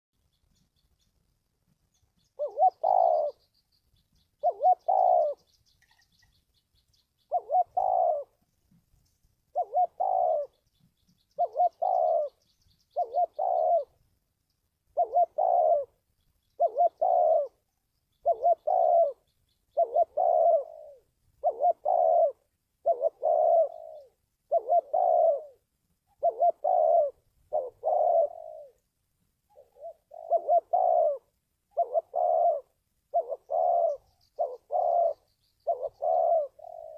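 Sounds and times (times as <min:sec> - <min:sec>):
dove cooing: 0:02.1 - 0:08.8, 0:09.5 - 0:14.0, 0:14.9 - 0:28.8, 0:29.5 - 0:36.9.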